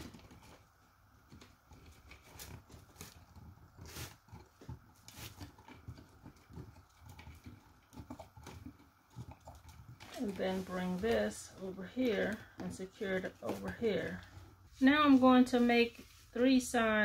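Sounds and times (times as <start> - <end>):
dry vine and wire crackling: 1.4 - 16.4.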